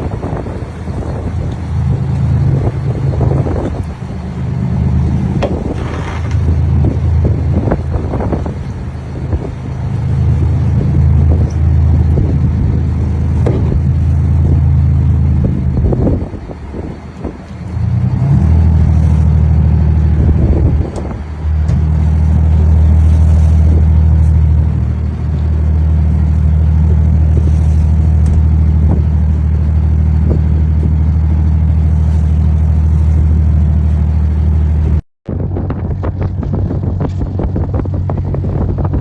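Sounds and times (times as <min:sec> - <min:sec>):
boat engine droning: 0:00.0 - 0:39.0.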